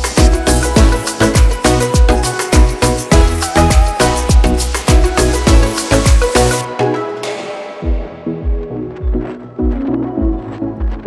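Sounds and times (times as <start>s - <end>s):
steady kick drum: 0.0s - 6.6s, 7.8s - 11.0s
upbeat background music: 0.0s - 11.0s.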